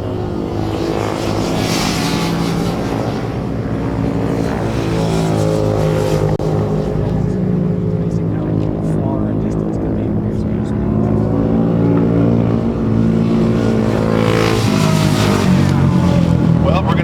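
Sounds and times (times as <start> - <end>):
racing motorcycle engines revving: 0.0 - 17.0.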